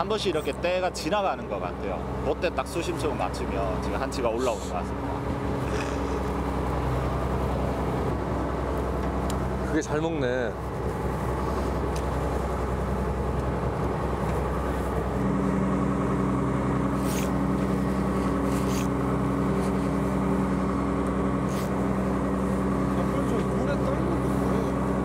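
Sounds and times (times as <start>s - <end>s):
boat machinery droning: 0.0s - 25.0s.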